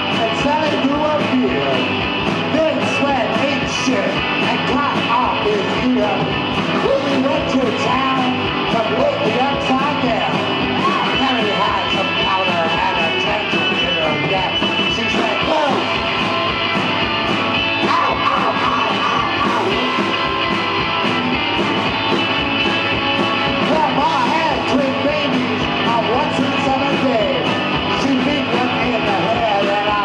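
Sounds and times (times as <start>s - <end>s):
bending guitar notes: 0.0s - 30.0s
drums with cymbal beat: 0.0s - 30.0s
electric guitars: 0.0s - 30.0s.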